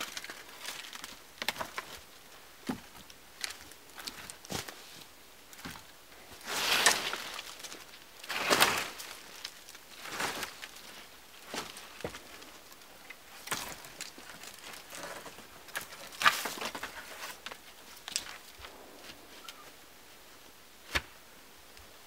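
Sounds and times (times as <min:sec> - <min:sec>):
dry branches scraping and rustling: 0:00.0 - 0:19.8.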